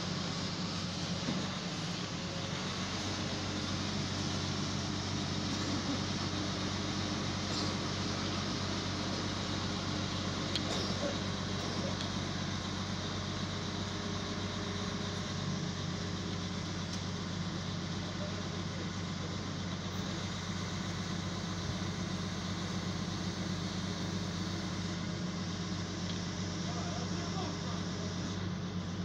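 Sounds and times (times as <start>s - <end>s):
truck engine running steadily: 0.0s - 29.0s.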